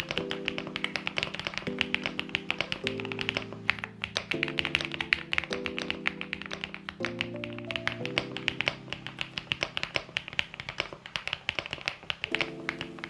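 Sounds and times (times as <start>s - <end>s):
background music with sustained chords: 0.0s - 10.8s, 12.3s - 13.0s
fast typing on mechanical keyboard: 0.0s - 13.0s.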